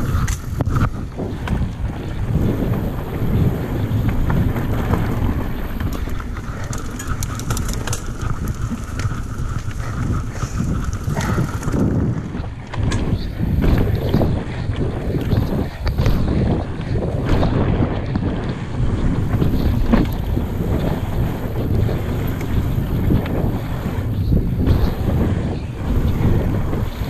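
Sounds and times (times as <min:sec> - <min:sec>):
bike rattling and clattering: 0:00.0 - 0:27.0
bike tyres rumbling on dirt: 0:00.0 - 0:27.0
wind buffeting microphone: 0:00.0 - 0:27.0.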